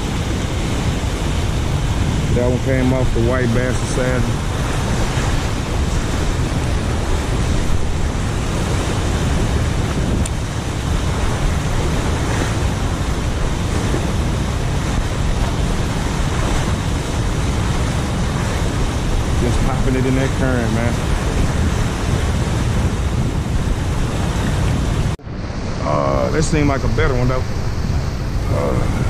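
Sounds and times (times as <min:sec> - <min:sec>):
turbulent river rushing: 0:00.0 - 0:29.0
wind buffeting microphone: 0:00.0 - 0:29.0.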